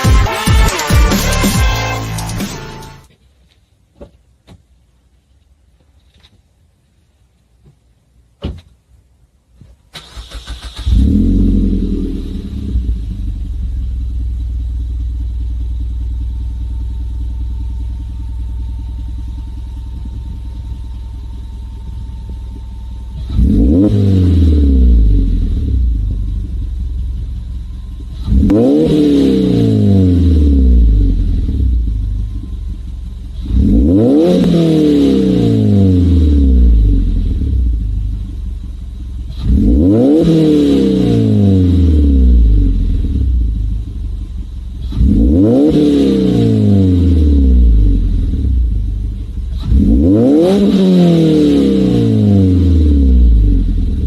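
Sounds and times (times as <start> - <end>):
car engine idling: 6.8 - 54.0
car engine revving: 9.9 - 54.0.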